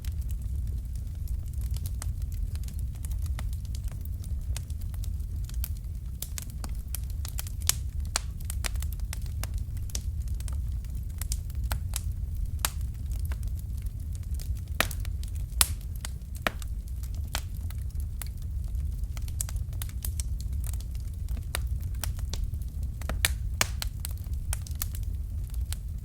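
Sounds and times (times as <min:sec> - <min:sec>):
fire popping and snapping: 0:00.0 - 0:26.0
fire rumbling: 0:00.0 - 0:26.0.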